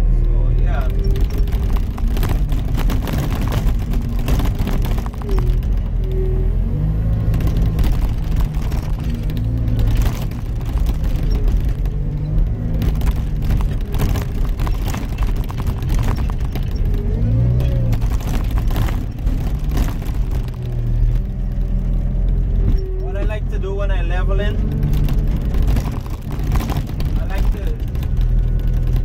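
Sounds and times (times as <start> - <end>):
knocks and rattles: 0.0 - 29.0.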